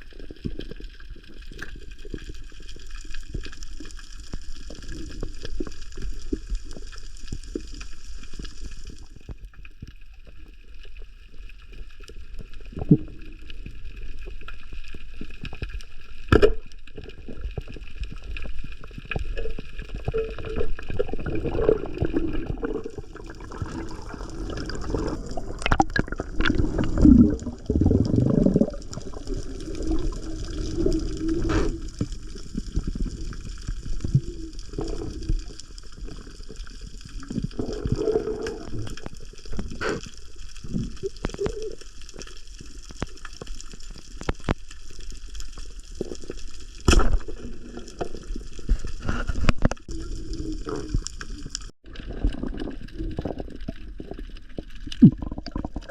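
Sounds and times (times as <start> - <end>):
water gurgling and sloshing: 0.0 - 55.9.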